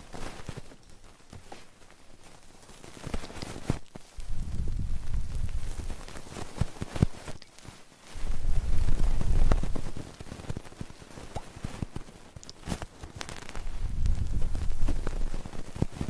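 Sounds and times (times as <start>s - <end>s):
crisp crackles and clicks: 0.0s - 16.0s
rubbing on microphone: 0.0s - 16.0s.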